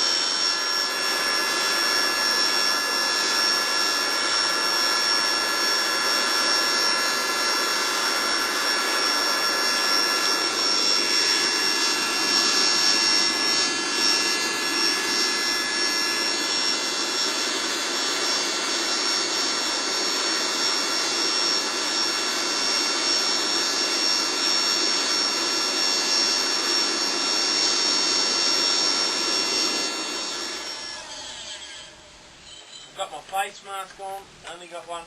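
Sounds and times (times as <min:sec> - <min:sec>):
blower air rush with whine: 0:00.0 - 0:35.0.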